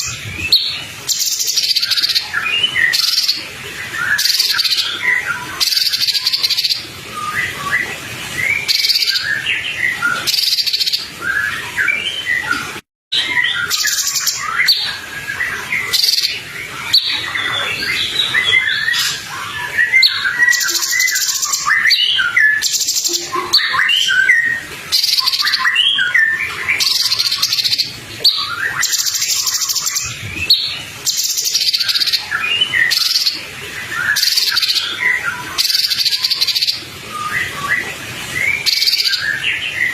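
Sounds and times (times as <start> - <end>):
songbird chirping and whistling: 0.0 - 39.9.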